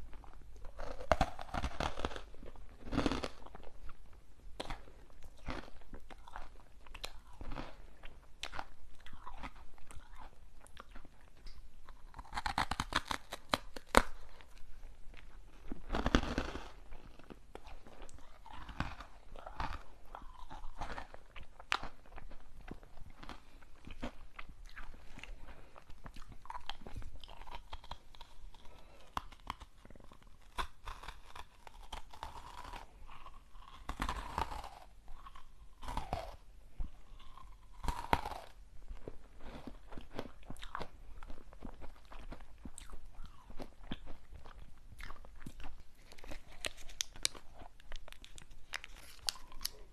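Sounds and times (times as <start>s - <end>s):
chewing crunchy snacks: 0.0s - 49.9s.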